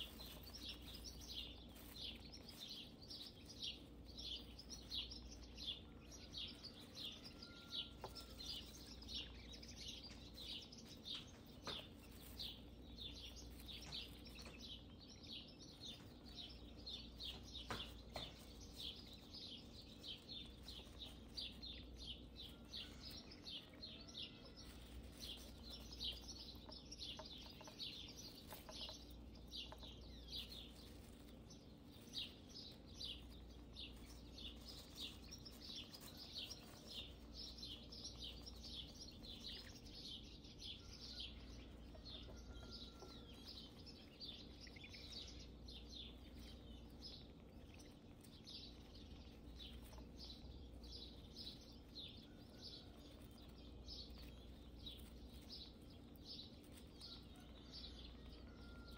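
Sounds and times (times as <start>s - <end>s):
faint low hum: 0.0s - 58.7s
small birds chirping: 0.0s - 58.9s.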